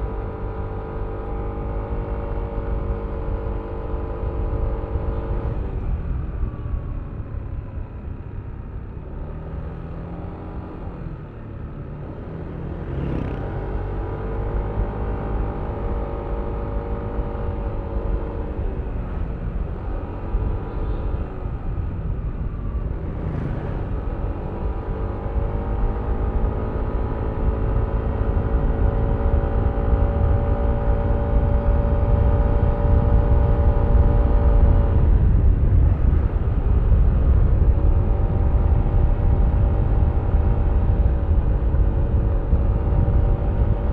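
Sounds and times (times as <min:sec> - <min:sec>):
wind rumble on microphone: 0:00.0 - 0:43.9.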